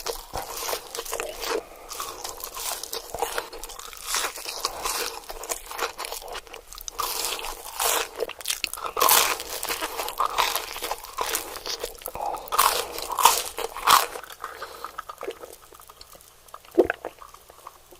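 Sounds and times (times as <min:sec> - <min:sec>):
crisp bites and crunches: 0:00.0 - 0:17.3.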